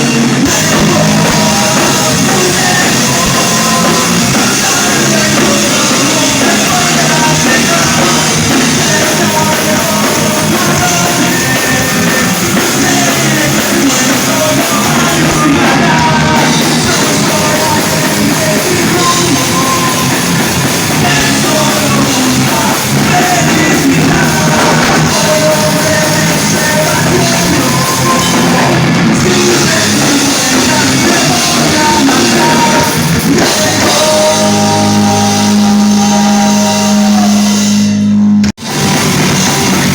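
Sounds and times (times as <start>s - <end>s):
person singing and shouting: 0.0s - 38.1s
live rock band playing: 0.0s - 39.9s.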